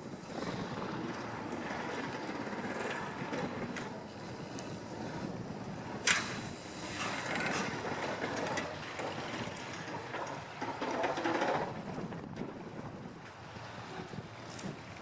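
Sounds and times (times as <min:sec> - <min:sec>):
locomotive clattering and rattling: 0:00.1 - 0:15.0.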